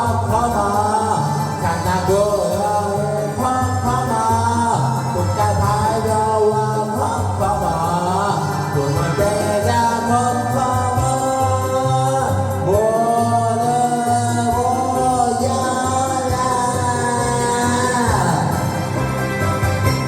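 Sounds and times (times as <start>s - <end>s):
person singing: 0.0s - 19.6s
karaoke backing track with bass beat: 0.0s - 20.0s.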